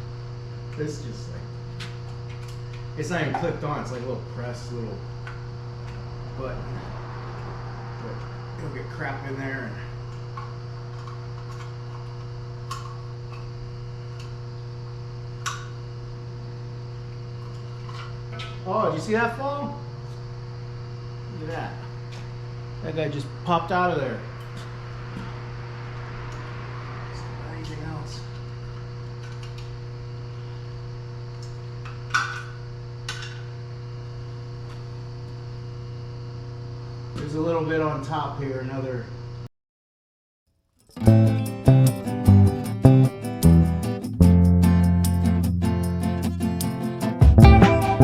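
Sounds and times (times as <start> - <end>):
steady electrical hum: 0.0 - 39.5.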